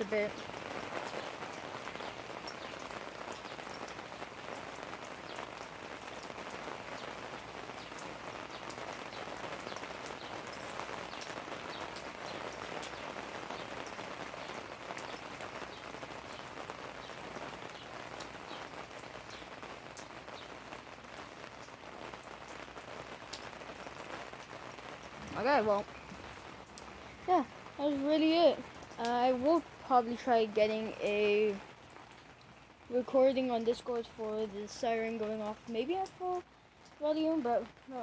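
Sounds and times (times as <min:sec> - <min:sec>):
heavy rain splashing: 0:00.0 - 0:38.0.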